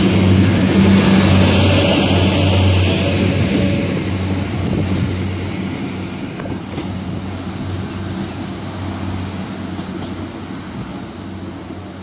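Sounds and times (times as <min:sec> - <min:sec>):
train diesel engine drone: 0:00.0 - 0:12.0
wheel and rail noise: 0:00.0 - 0:12.0.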